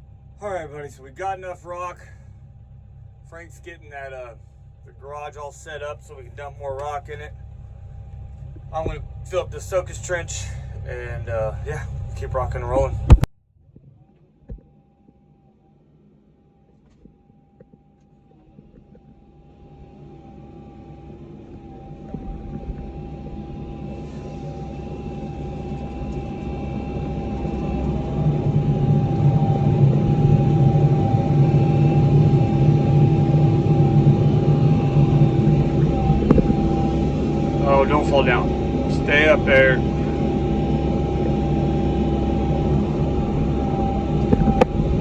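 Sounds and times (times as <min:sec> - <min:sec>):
excavator engine and hydraulics: 0:00.0 - 0:13.3, 0:14.7 - 0:45.0
steady whine: 0:00.0 - 0:45.0.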